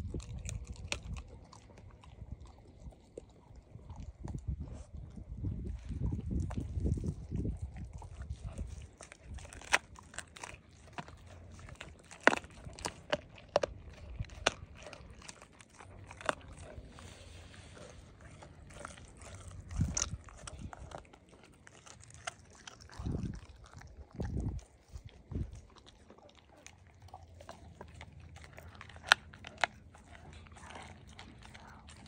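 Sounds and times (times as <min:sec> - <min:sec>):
dog chewing raw meat: 0:00.0 - 0:32.0
wet crunches and tooth clicks: 0:00.0 - 0:32.0.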